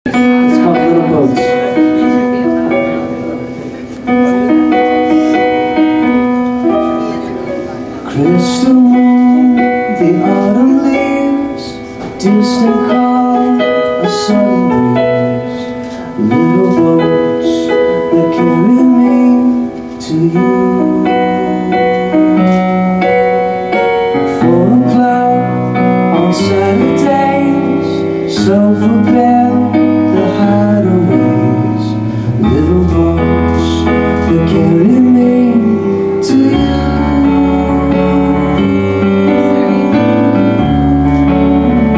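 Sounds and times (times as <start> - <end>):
live band playing pop song: 0.0 - 41.9.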